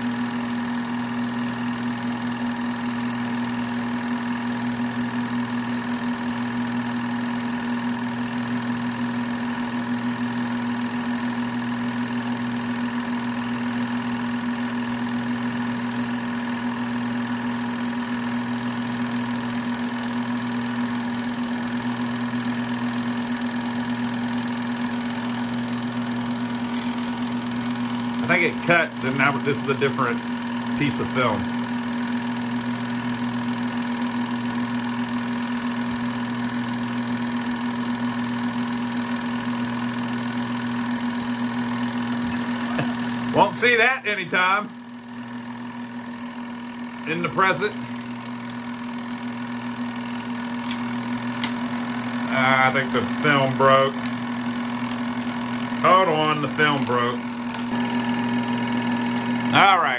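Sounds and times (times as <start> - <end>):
film projector running: 0.0 - 59.9
film clattering through projector: 0.1 - 59.8.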